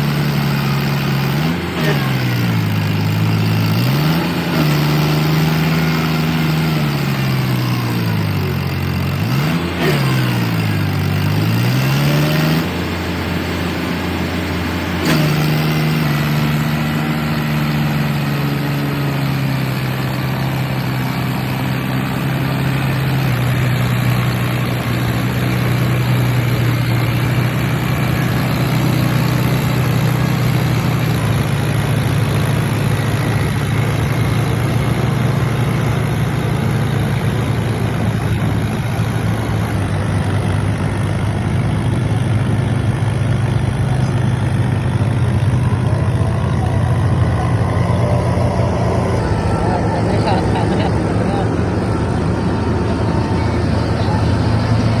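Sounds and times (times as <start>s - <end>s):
tractor diesel engine revving: 0.0s - 55.0s.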